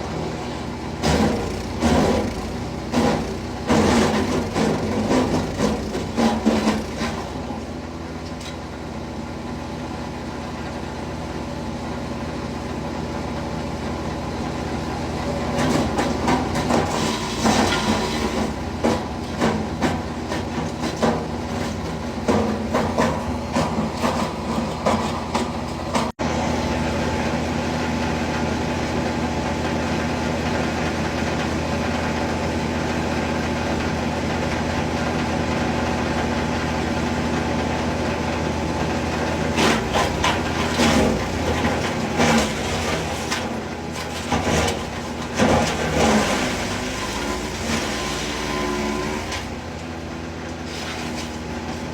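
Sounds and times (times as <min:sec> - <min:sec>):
wood chipper engine running: 0:00.0 - 0:51.9.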